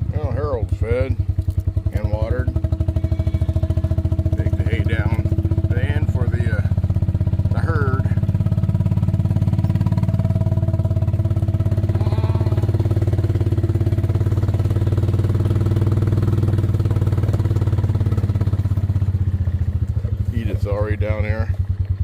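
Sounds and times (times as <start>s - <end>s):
small engine running steadily: 0.0s - 22.0s.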